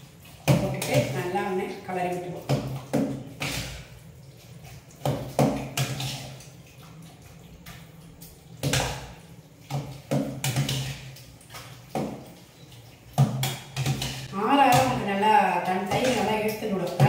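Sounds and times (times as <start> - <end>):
wet squelching mixing: 0.0 - 17.0.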